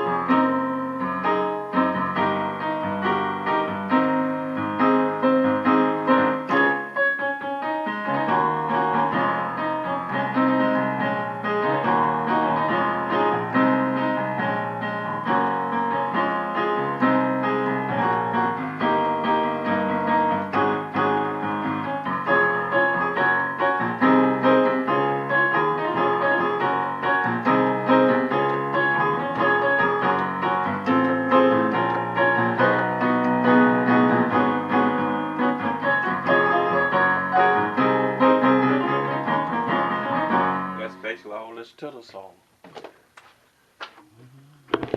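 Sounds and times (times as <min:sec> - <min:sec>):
gospel piano chords: 0:00.0 - 0:41.7.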